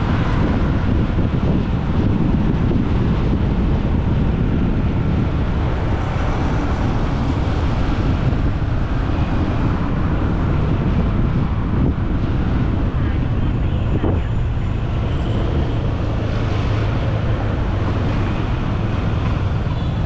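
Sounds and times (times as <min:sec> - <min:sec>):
motorbike riding: 0:00.0 - 0:20.0
road and traffic noise: 0:00.0 - 0:20.0
wind rumble on microphone: 0:00.0 - 0:20.0.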